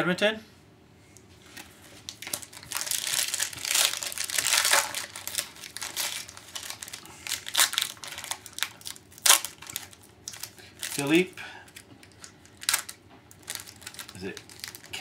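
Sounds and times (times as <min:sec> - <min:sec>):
foil wrappers crinkling: 0:01.5 - 0:15.0.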